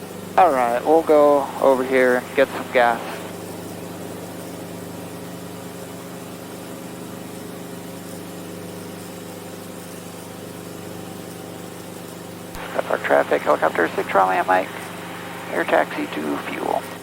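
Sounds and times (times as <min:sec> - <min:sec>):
helicopter engine and rotors: 0:00.0 - 0:17.0.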